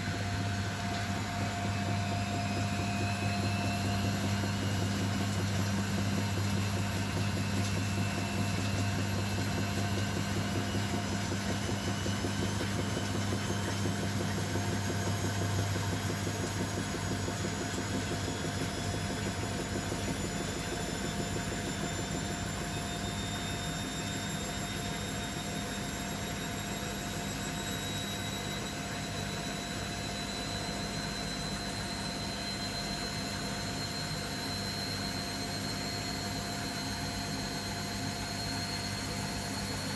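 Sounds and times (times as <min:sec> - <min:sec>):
washing machine low hum: 0:00.0 - 0:39.9.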